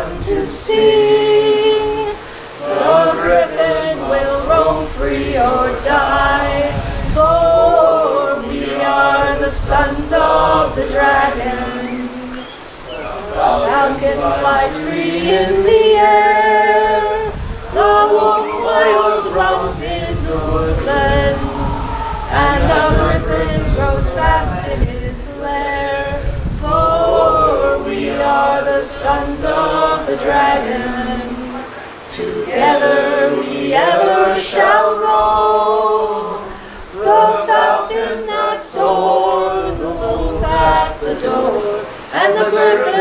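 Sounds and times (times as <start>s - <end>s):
unaccompanied group singing: 0.0s - 43.0s.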